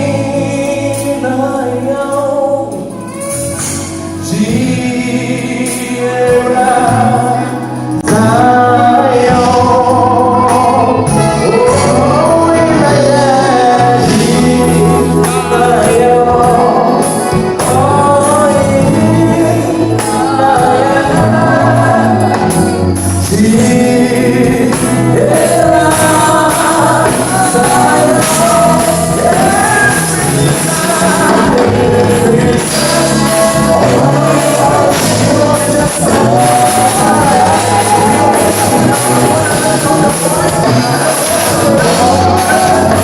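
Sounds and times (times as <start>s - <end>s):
band with bass and percussion: 0.0s - 43.0s
gospel singing voices: 0.0s - 43.0s.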